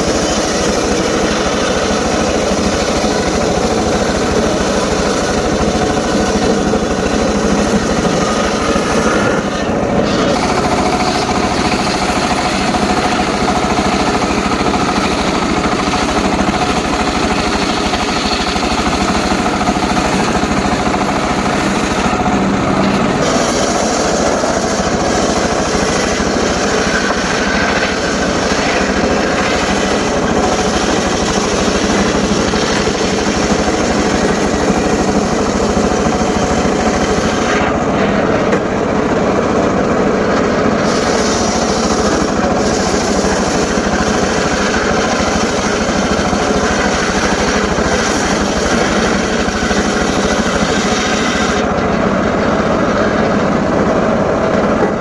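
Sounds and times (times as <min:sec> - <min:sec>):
circular saw cutting wood: 0:00.0 - 0:55.0.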